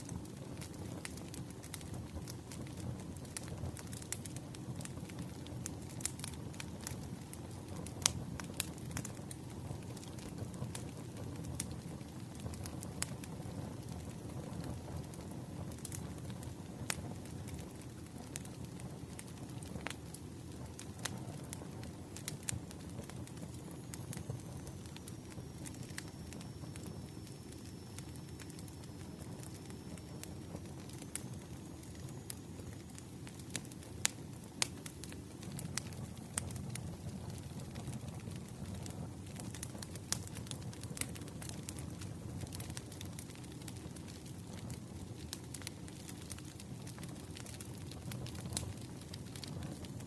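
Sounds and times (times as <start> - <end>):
low rush of flame: 0.0 - 50.0
wood crackling and popping: 0.0 - 50.0.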